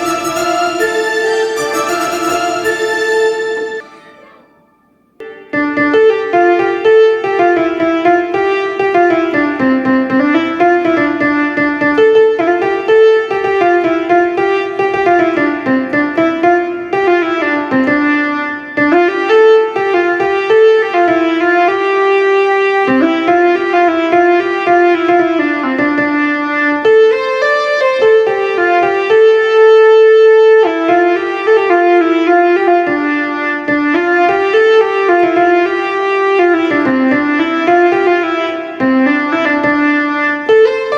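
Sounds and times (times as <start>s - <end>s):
keyboard playing sustained melody: 0.0s - 40.9s.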